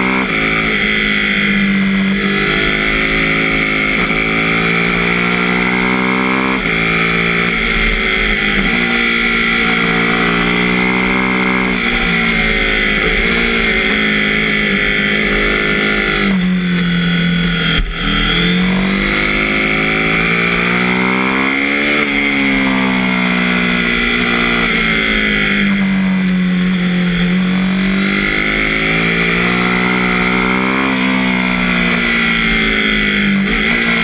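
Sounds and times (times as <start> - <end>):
motorcycle engine: 0.0 - 34.0.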